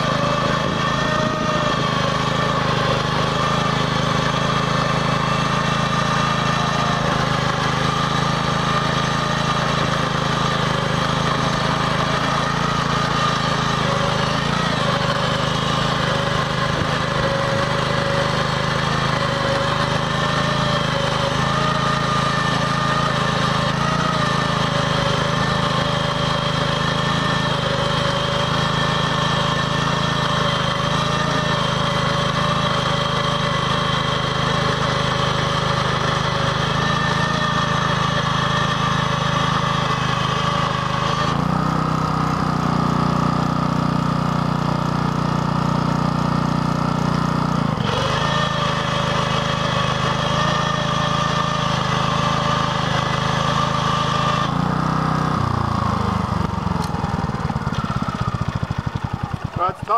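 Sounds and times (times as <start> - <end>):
walk-behind tractor engine under load: 0.0 - 59.9.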